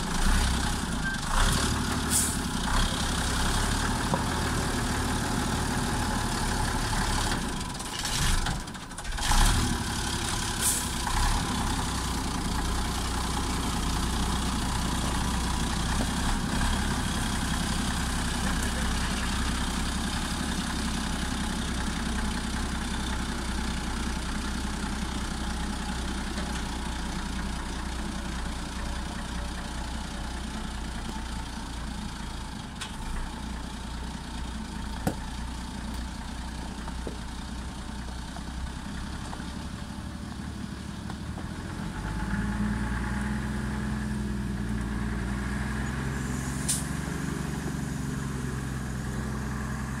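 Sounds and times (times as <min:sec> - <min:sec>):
truck diesel engine running: 0:00.0 - 0:50.0.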